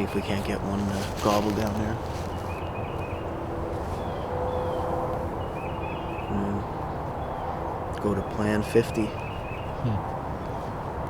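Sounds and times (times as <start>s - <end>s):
songbird chirping: 0.0s - 10.7s.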